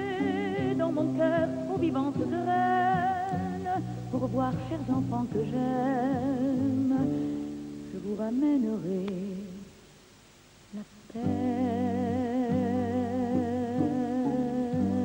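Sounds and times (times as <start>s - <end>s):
person singing with vibrato: 0.0s - 10.0s, 10.7s - 15.0s.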